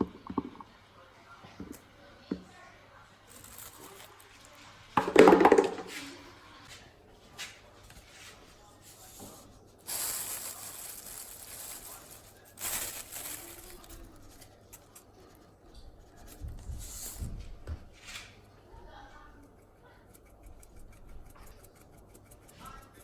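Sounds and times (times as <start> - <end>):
food preparation rubbing and rustling: 3.2 - 23.0.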